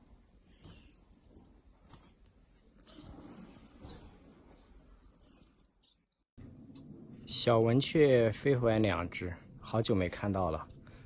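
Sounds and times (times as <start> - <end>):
insect chirping: 0.0 - 11.0
outdoor background noise: 0.0 - 11.0.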